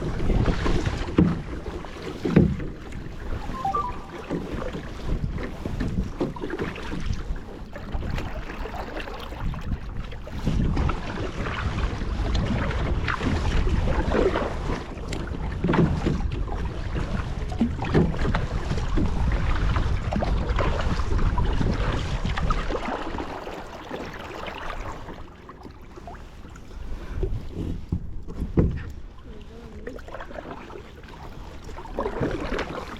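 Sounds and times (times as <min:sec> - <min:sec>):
water splashing around kayak: 0:00.0 - 0:32.9.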